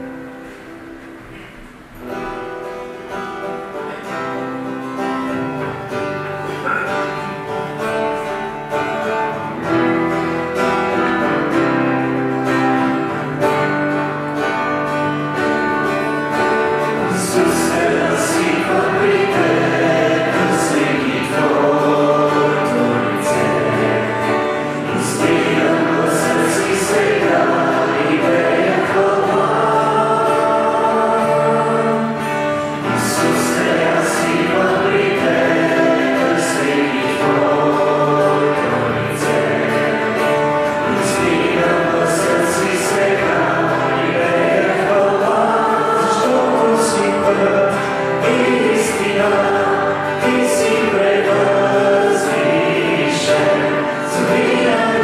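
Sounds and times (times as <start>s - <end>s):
acoustic guitars strumming: 0.0s - 55.0s
group of voices singing: 9.1s - 55.0s.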